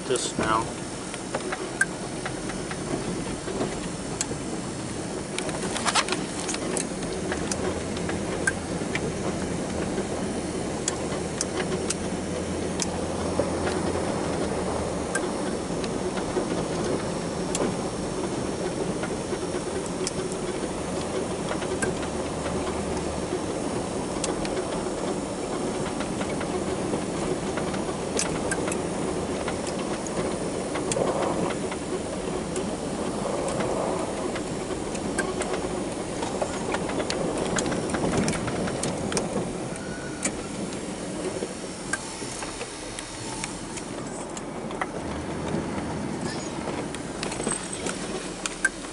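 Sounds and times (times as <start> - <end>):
garden tractor engine running: 0.0 - 48.9
sharp clicks and clanks: 0.0 - 48.9.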